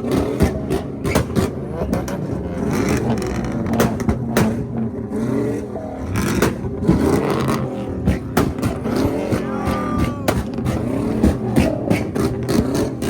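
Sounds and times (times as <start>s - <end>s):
car engines revving: 0.0s - 13.0s
exhaust backfires popping: 0.0s - 13.0s.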